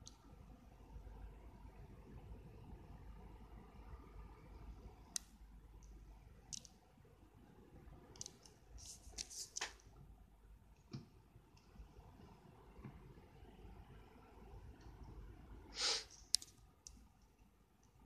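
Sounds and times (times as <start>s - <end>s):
low hiss: 0.0s - 18.0s.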